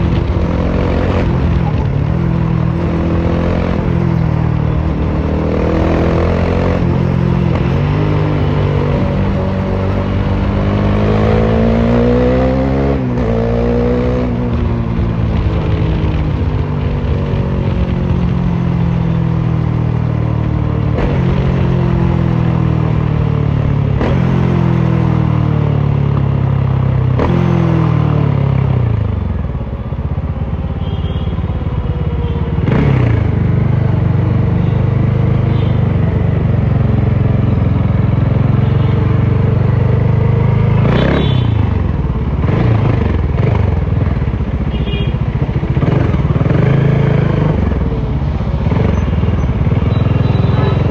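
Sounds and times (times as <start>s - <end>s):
unmuffled motorcycle engine revving: 0.0s - 50.9s.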